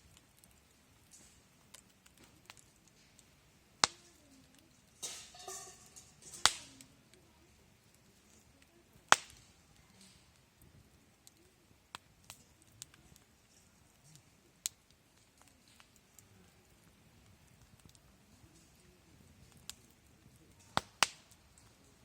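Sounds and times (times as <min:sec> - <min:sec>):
burning wood hissing: 0:00.0 - 0:22.0
fire popping: 0:00.0 - 0:22.0
wood fire crackling: 0:00.0 - 0:22.0.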